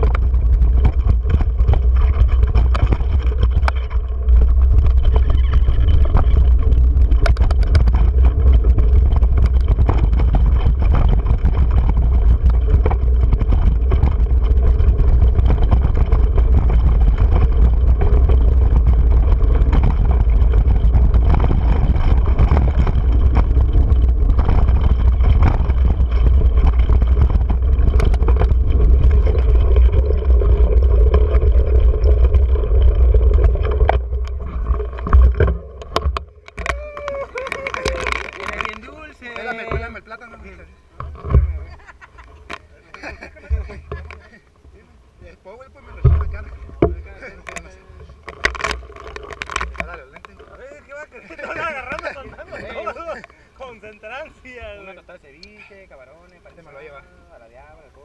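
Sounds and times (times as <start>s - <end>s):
bike rattles and knocks: 0.0s - 44.6s, 45.8s - 54.9s
wind and tyres on dirt rumble: 0.0s - 58.0s.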